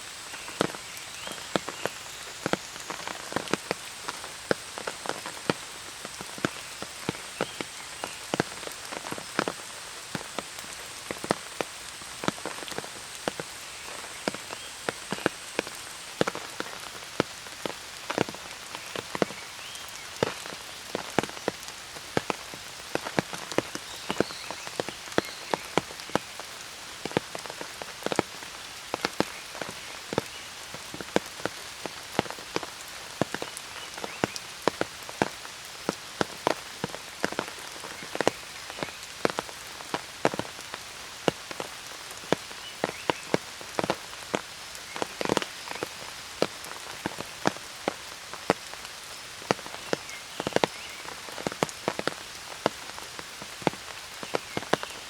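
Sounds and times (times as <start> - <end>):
large raindrops tapping: 0.0 - 55.0
steady rain: 0.0 - 55.0.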